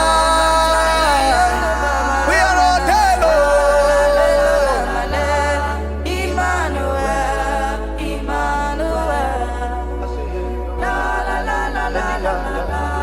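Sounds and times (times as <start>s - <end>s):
sustained bass notes: 0.0s - 13.0s
voices singing gospel: 0.0s - 13.0s.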